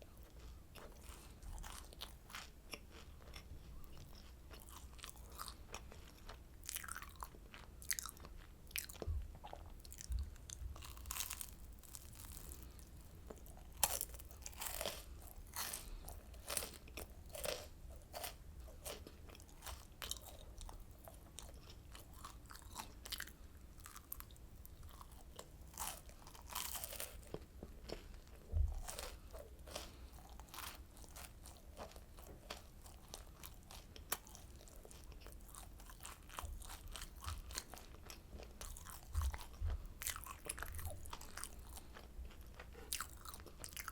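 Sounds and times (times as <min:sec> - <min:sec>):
person crunching candy: 0:00.1 - 0:43.9.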